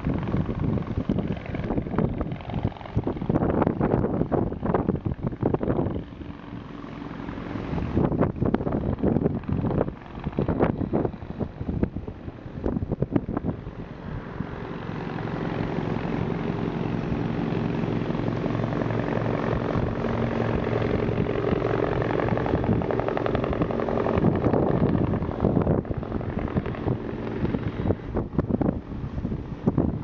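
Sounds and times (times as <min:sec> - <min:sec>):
engine drone: 0:00.0 - 0:30.0
wind buffeting microphone: 0:00.0 - 0:30.0.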